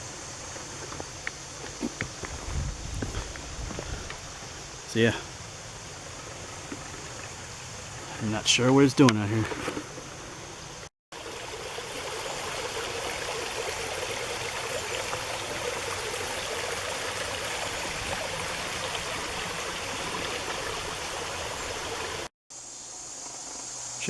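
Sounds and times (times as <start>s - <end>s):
creek water rushing: 0.0s - 22.3s.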